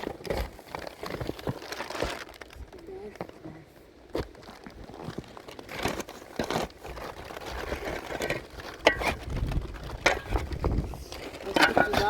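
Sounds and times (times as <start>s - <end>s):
material crinkling and rustling: 0.0s - 12.0s.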